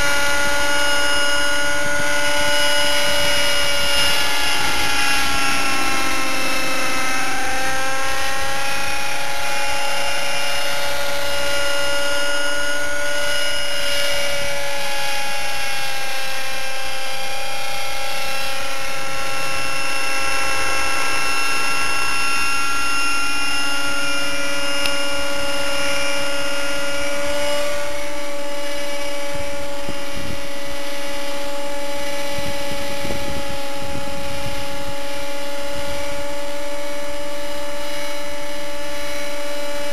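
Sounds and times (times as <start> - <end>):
model helicopter engine whining: 0.0 - 39.9.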